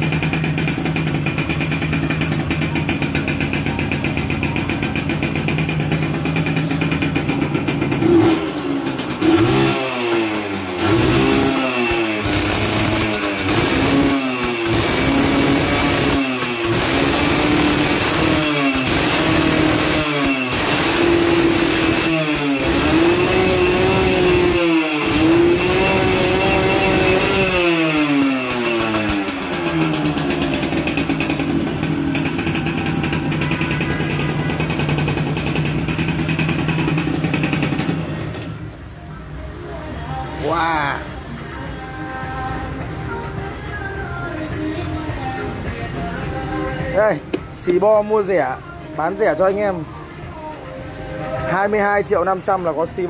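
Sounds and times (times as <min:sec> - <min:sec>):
two-stroke engine revving and idling: 0:00.0 - 0:39.0, 0:39.9 - 0:53.0.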